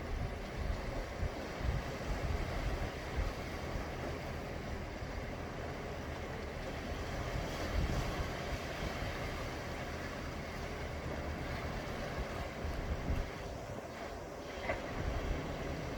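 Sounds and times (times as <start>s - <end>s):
sea waves washing: 0.0s - 15.9s.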